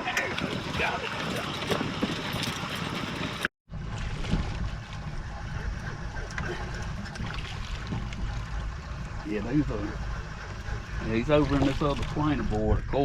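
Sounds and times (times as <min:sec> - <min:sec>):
boat low rumble: 0:00.0 - 0:13.0
water noise: 0:00.0 - 0:13.0
wind: 0:00.0 - 0:13.0.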